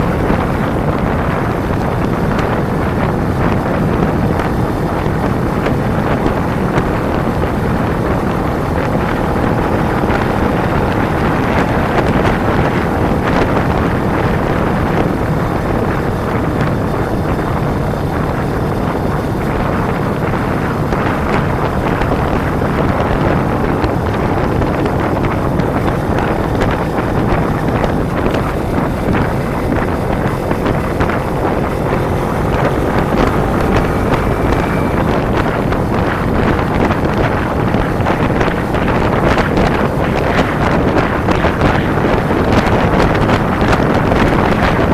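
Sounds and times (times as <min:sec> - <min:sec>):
faint motorcycle engine droning: 0:00.0 - 0:44.9
wind buffeting microphone: 0:00.0 - 0:44.9.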